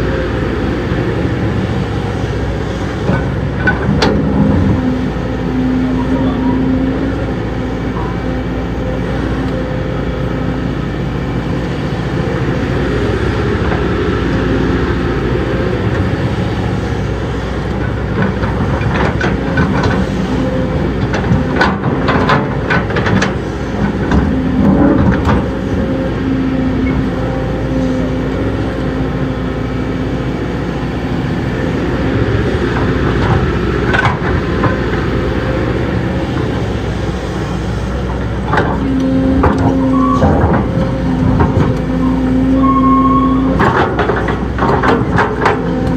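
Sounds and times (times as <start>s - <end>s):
diesel machinery running: 0.0s - 45.9s.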